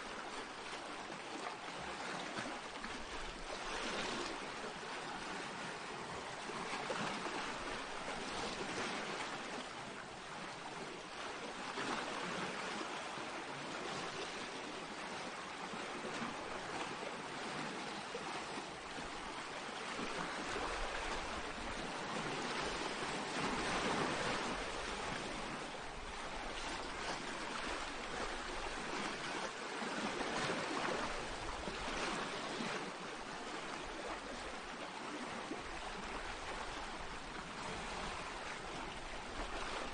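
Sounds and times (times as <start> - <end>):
small waves on a pebble beach: 0.0 - 39.9.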